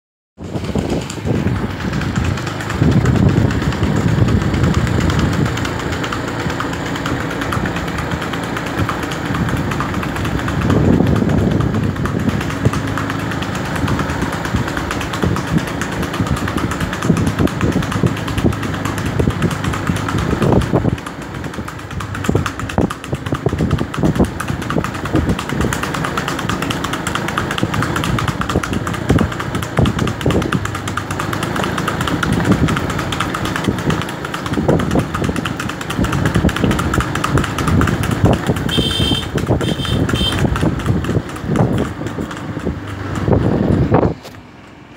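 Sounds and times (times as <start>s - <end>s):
horse hoofbeats on asphalt: 0.4s - 44.9s
vehicle engine running: 0.4s - 44.9s.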